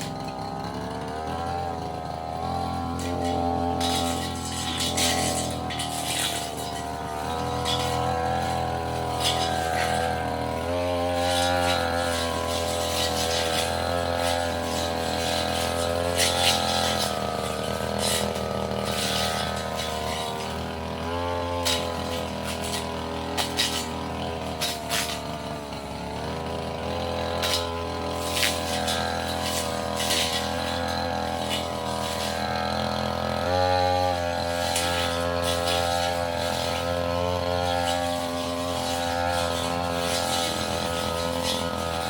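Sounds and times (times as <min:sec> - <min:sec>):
blade striking undergrowth: 0:00.0 - 0:42.0
brush cutter engine running: 0:00.0 - 0:42.0.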